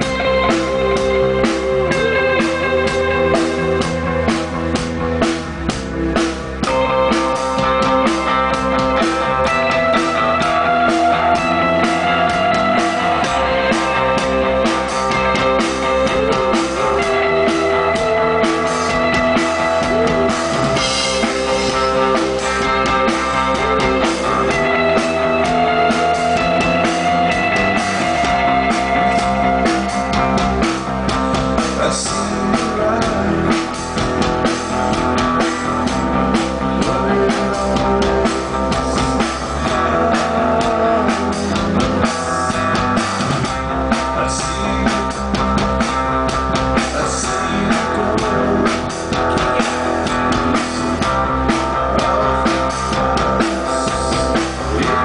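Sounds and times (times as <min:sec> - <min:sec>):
bass guitar: 0:00.0 - 0:55.0
drum kit: 0:00.0 - 0:55.0
guitars: 0:00.0 - 0:55.0.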